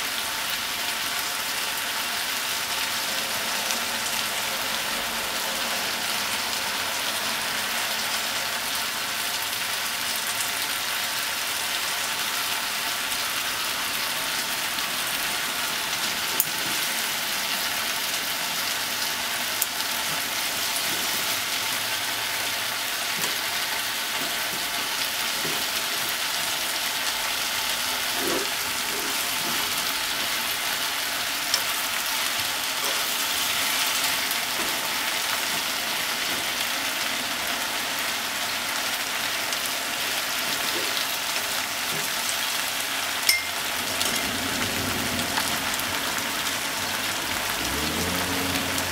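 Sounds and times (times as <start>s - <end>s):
food sizzling in a pot: 0.0s - 48.9s.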